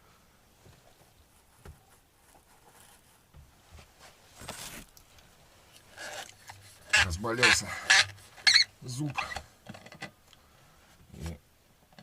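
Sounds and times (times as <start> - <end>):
faint knocks and rustles of handling: 0.5 - 10.2.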